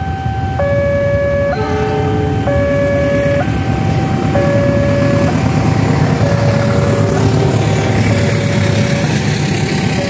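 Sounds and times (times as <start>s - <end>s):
two-tone crossing alarm: 0.0s - 10.0s
train rumbling past: 0.6s - 10.0s.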